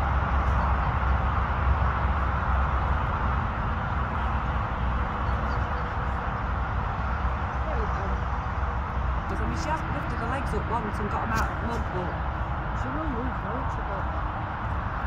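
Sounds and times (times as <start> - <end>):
low unsteady rumble: 0.0 - 15.0.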